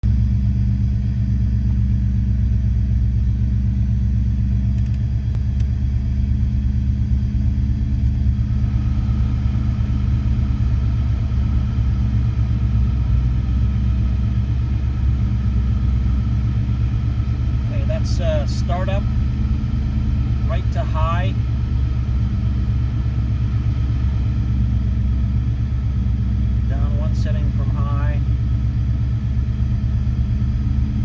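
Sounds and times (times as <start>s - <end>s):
car engine idling: 0.0s - 31.0s
steady higher hum: 0.0s - 31.0s.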